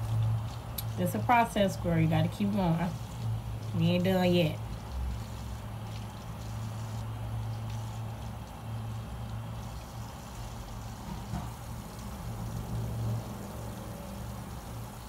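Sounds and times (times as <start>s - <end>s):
steady low hum: 0.0s - 15.0s
wet hair squeezed and rinsed: 0.0s - 15.0s.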